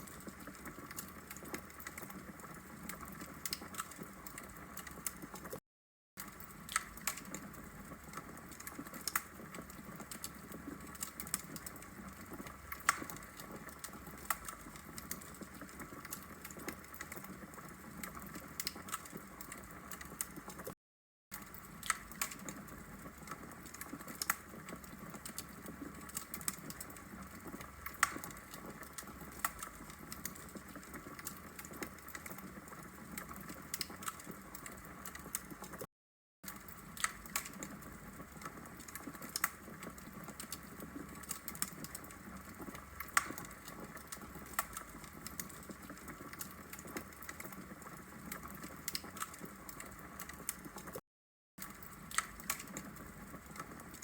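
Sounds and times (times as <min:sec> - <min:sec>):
fire crackling and popping: 0:00.0 - 0:05.6, 0:06.2 - 0:35.9, 0:36.5 - 0:51.0, 0:51.6 - 0:54.0.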